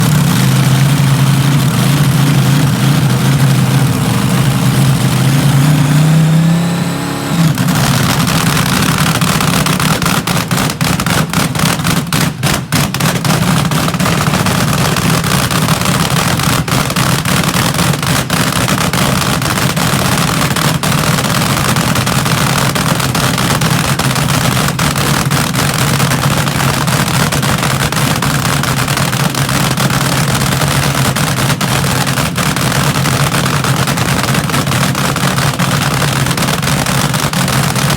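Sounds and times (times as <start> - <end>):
dragster engine revving: 0.0 - 37.9.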